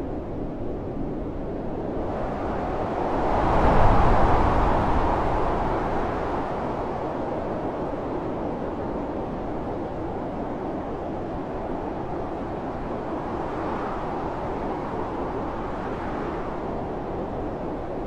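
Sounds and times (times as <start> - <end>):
blizzard wind and blowing snow: 0.0 - 18.0.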